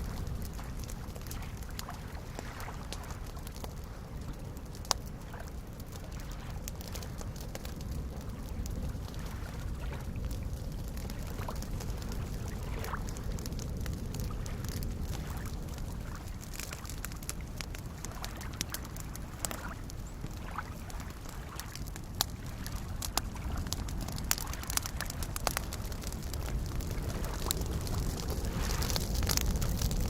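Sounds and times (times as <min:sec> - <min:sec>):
campfire crackling and popping: 0:00.0 - 0:30.0
waves lapping on a shore: 0:00.0 - 0:30.0.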